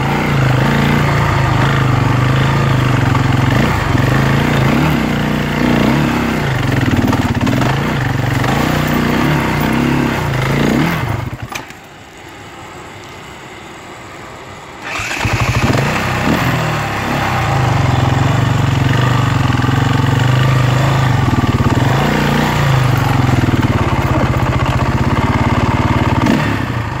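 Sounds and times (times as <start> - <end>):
motorcycle engine revving: 0.0 - 11.9, 14.8 - 27.0.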